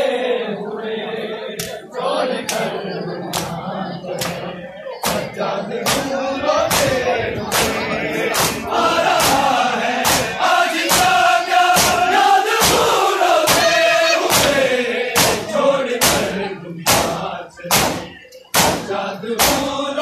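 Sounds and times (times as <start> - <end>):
men chanting in unison: 0.0 - 20.0
rhythmic chest slaps: 1.6 - 1.8, 3.3 - 20.0.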